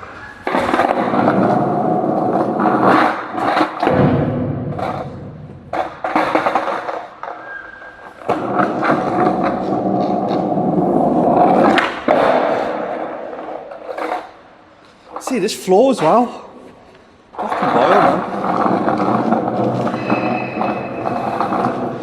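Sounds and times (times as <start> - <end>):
skateboard clacks: 0.0 - 14.5, 17.4 - 22.0
skateboard wheels rolling: 0.0 - 15.3, 16.7 - 22.0.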